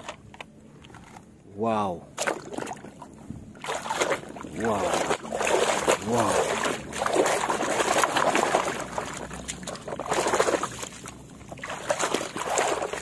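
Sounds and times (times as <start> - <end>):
muddy water sloshing in basin: 2.0 - 13.0.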